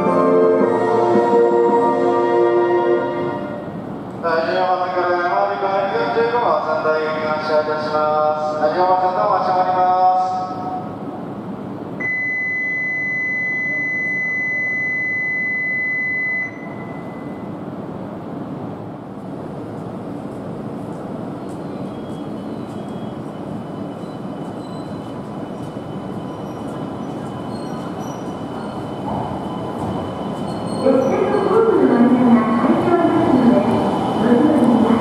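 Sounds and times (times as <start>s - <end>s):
train rumbling: 0.0s - 12.0s, 16.5s - 35.0s.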